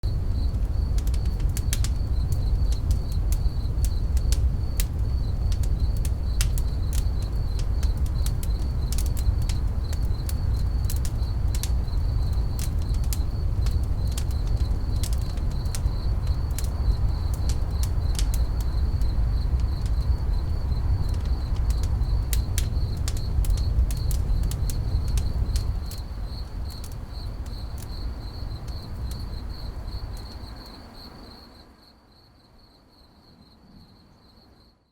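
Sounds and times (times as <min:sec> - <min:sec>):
campfire crackling and popping: 0:00.0 - 0:30.5
crickets chirping: 0:00.0 - 0:34.9.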